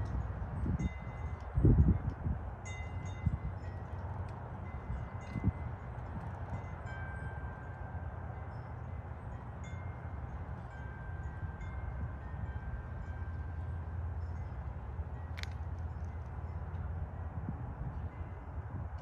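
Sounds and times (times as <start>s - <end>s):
wind chimes ringing: 2.6s - 4.0s, 4.6s - 18.6s.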